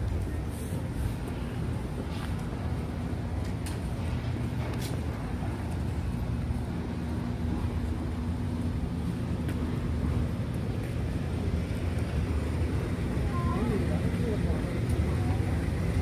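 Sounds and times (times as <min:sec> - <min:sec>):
urban traffic hum: 0:00.0 - 0:16.0.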